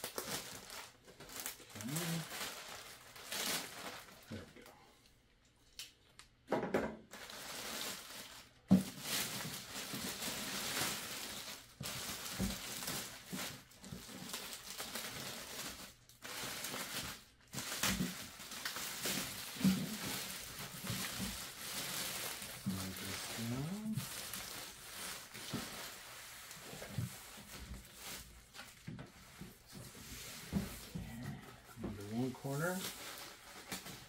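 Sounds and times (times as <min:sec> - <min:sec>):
plastic bag rustling and crinkling: 0:00.0 - 0:04.7, 0:07.1 - 0:34.0.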